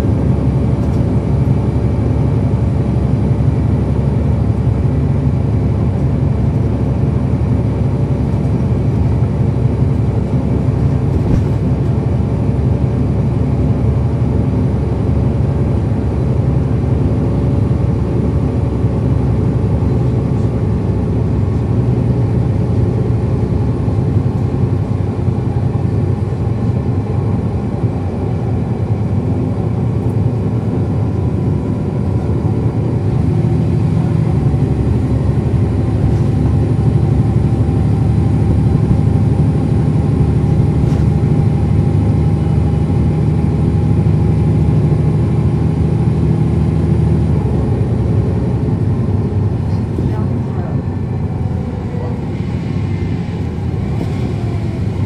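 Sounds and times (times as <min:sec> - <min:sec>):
bus diesel engine running: 0:00.0 - 0:55.0
road and drivetrain noise: 0:00.0 - 0:55.0.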